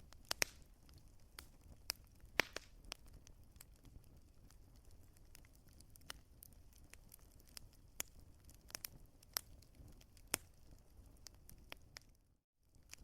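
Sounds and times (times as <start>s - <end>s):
sharp pops from fire: 0.0s - 13.0s
wood fire crackling: 0.0s - 13.0s.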